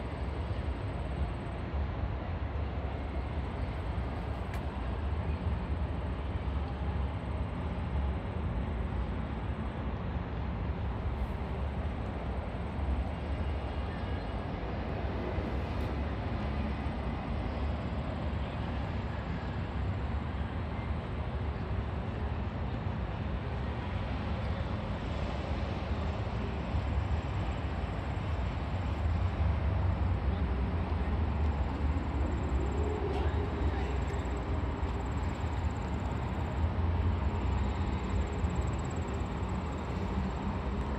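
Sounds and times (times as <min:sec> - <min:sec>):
city traffic rumble: 0:00.0 - 0:40.9.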